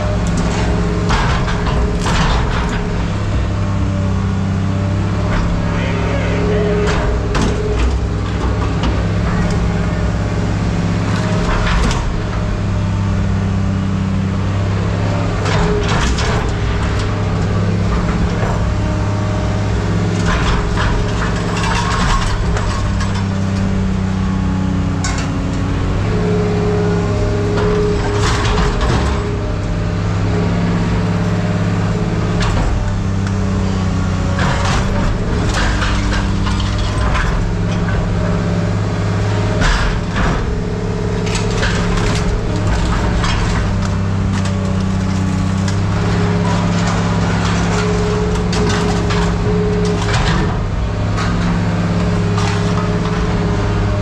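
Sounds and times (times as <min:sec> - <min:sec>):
scrap metal clanking: 0:00.0 - 0:30.8, 0:31.8 - 0:54.0
diesel engine running: 0:00.0 - 0:54.0.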